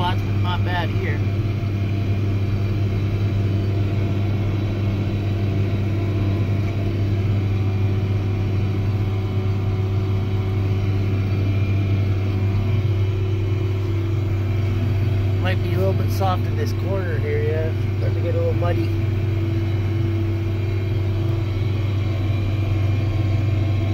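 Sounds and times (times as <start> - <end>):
tractor engine droning: 0.0 - 23.9.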